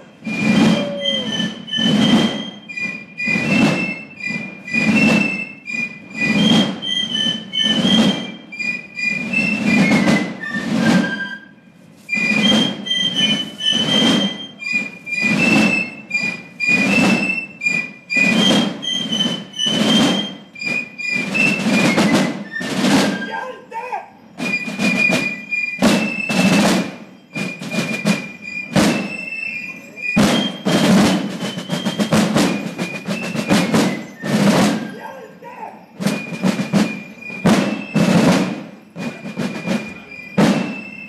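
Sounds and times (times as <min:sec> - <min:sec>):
drums beating: 0:00.0 - 0:11.4, 0:12.2 - 0:41.0
piccolos playing march: 0:00.0 - 0:41.0.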